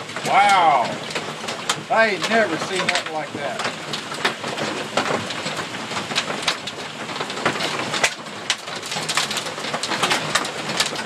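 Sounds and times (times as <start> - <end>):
hail hissing down: 0.0 - 11.0
hailstones cracking on surfaces: 0.0 - 11.0.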